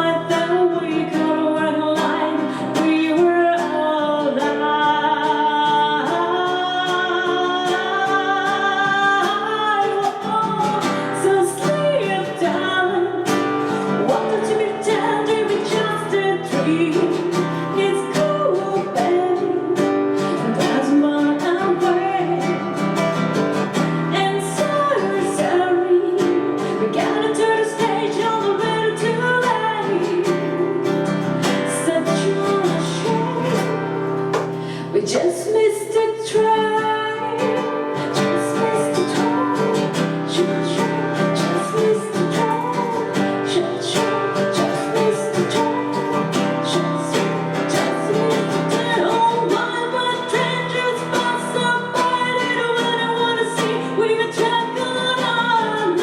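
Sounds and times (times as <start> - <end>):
person singing pop ballad: 0.0 - 56.0
strummed acoustic guitar: 0.0 - 56.0.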